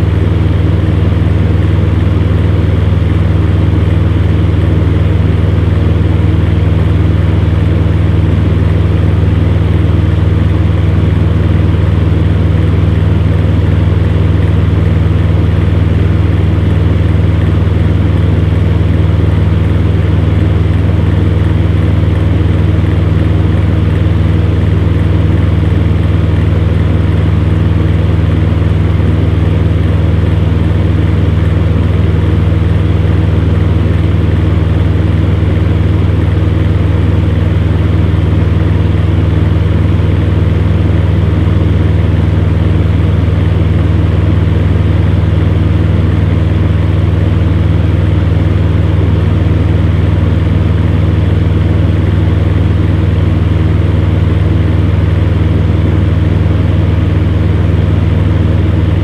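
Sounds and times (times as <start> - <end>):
fan heater running: 0.0 - 59.0.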